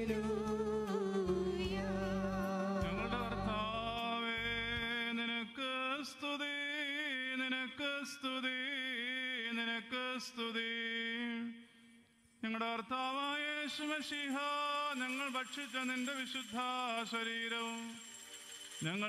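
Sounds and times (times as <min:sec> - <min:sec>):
man chanting into a microphone: 0:01.6 - 0:11.7, 0:12.4 - 0:17.9.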